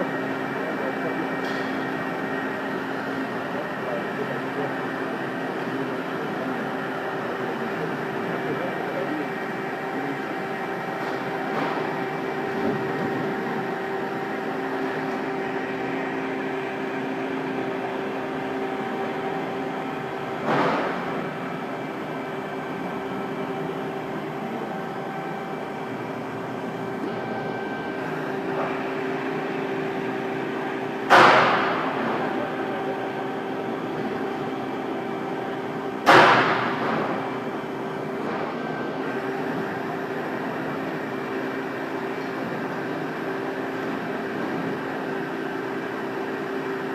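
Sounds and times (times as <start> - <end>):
hydraulic pump humming: 0.0 - 46.9.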